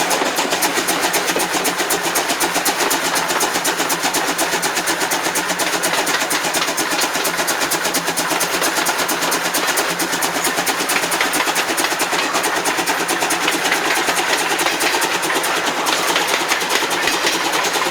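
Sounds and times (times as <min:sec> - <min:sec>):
steam locomotive chuffing: 0:00.0 - 0:17.9.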